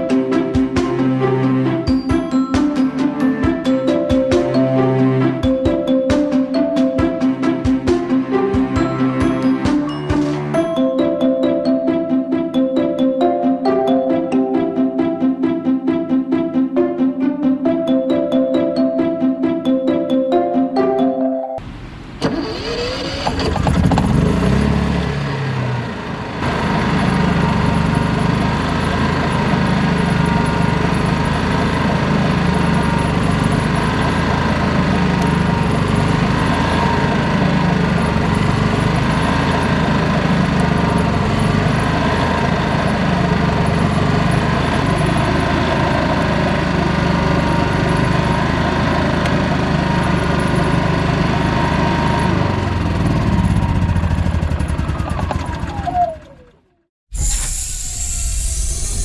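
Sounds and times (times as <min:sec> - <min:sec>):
generator engine running: 0:00.0 - 0:11.9, 0:22.2 - 0:57.7.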